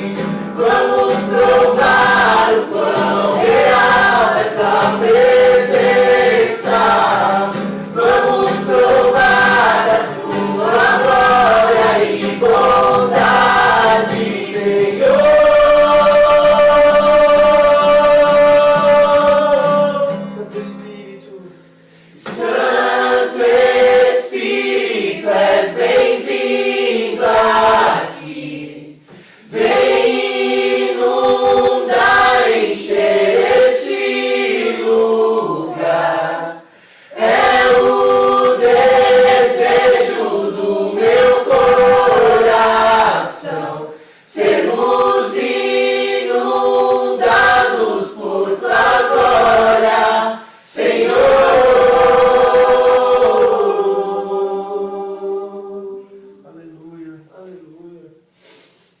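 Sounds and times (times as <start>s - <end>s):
group of voices singing: 0.0s - 56.5s.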